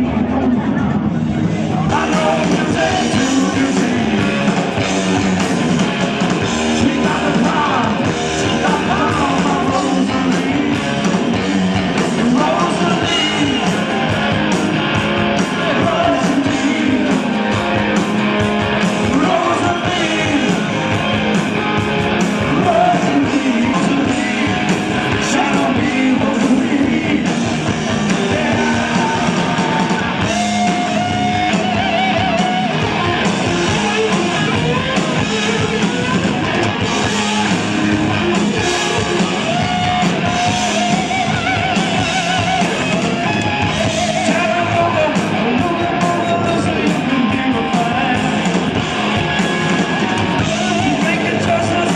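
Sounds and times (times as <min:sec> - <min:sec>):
drum kit: 0:00.0 - 0:51.9
electric guitars: 0:00.0 - 0:51.9
live rock band playing: 0:00.0 - 0:51.9.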